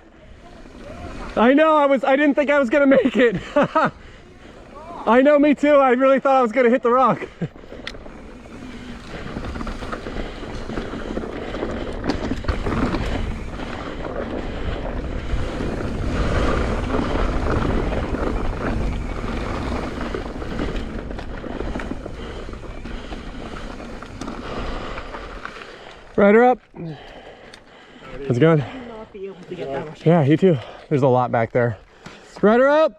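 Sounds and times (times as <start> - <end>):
bike tyres rolling on dirt: 0.0 - 32.9
bike clicks and rattles: 0.4 - 28.0.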